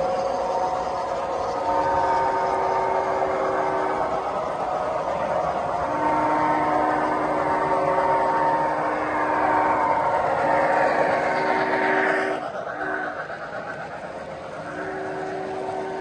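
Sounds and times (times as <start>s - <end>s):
model train motor hum: 0.0s - 16.0s
model train wheels rolling: 0.0s - 16.0s.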